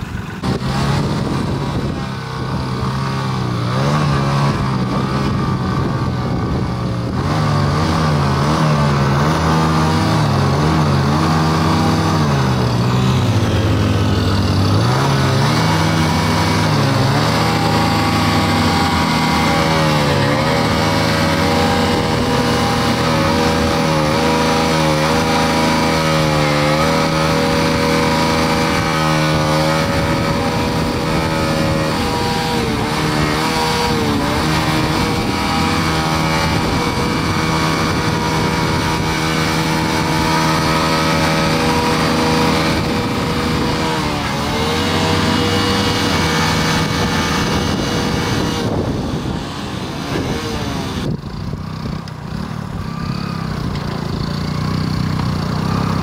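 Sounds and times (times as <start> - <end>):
motorcycle engines revving hard: 0.0 - 56.0
tractor engine running: 0.0 - 56.0.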